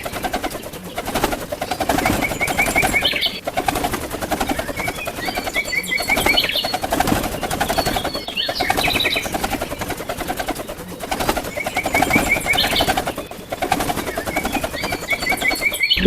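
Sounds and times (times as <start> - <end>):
sparrows chirping: 0.0 - 3.5, 4.3 - 16.0
rapid pulsing rattle: 0.0 - 16.0.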